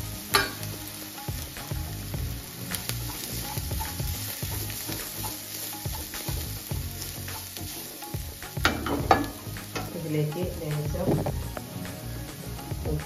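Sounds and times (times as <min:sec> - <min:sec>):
light sizzle: 0:00.0 - 0:13.0.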